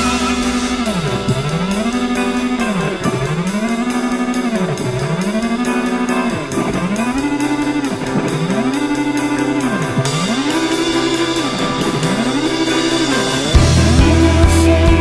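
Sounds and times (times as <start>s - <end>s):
guitar music with steady beat: 0.0s - 15.0s
sliding low note: 0.0s - 15.0s.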